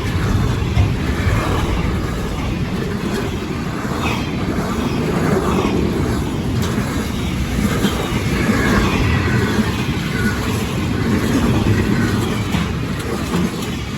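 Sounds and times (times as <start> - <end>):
freight train wheels rumbling: 0.0 - 13.9.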